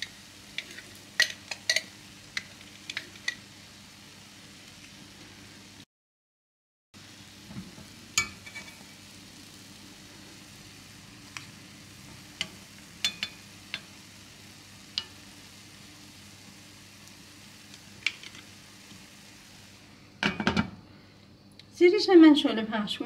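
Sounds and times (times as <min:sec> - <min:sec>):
faint steady hiss: 0:00.0 - 0:05.8, 0:07.0 - 0:23.0.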